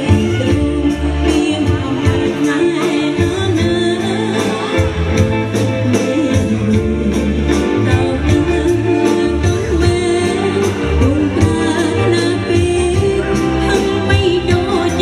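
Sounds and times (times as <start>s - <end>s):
drums and bass beat: 0.0s - 15.0s
woman singing: 0.0s - 15.0s.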